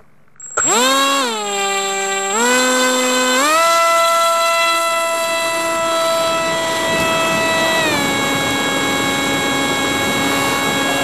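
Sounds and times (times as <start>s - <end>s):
drone motors whining: 0.4s - 11.0s.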